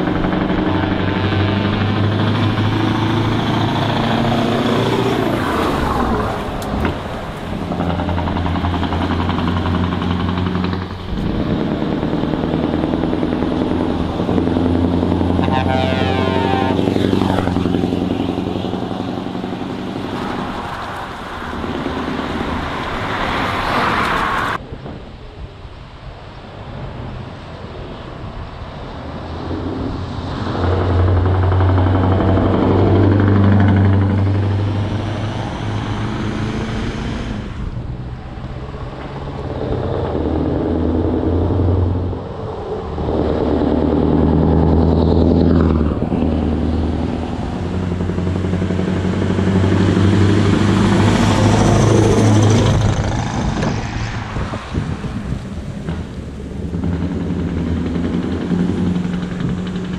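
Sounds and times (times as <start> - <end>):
diesel truck accelerating: 0.0 - 24.6, 28.6 - 59.9.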